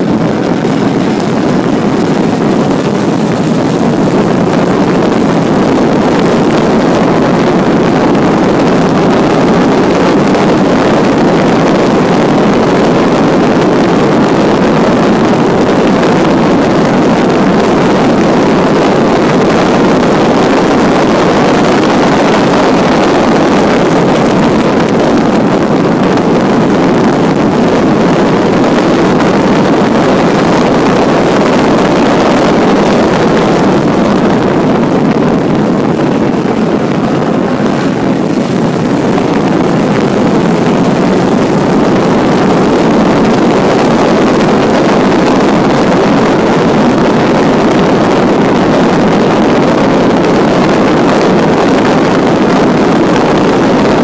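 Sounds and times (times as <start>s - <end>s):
car engine running hard: 0.0s - 54.0s
wind rush on microphone: 0.0s - 54.0s.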